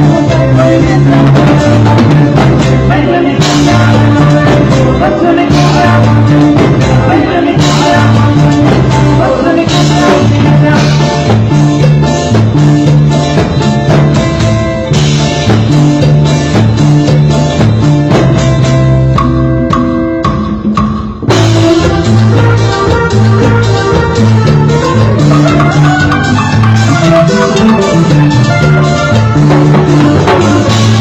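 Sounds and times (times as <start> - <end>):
latin dance band playing: 0.0 - 31.0.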